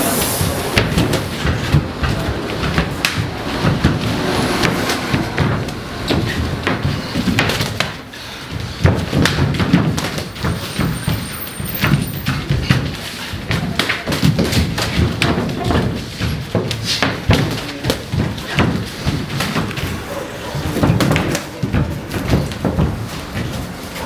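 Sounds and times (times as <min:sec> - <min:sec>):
boxing gloves thudding: 0:00.4 - 0:24.0.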